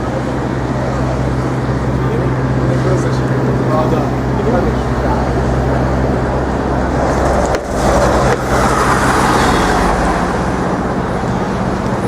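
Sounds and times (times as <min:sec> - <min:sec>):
low engine hum: 0:00.0 - 0:12.0
road noise: 0:00.0 - 0:12.0.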